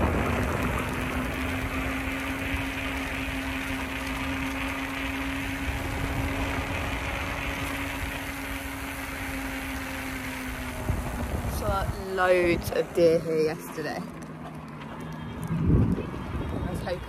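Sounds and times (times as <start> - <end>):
steady low hum: 0.0 - 17.0
wind and rolling noise: 0.0 - 17.0.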